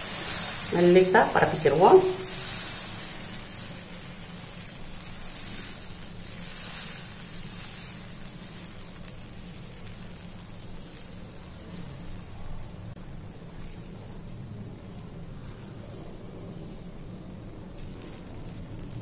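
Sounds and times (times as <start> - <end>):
batter sizzling on hot iron: 0.0 - 19.0.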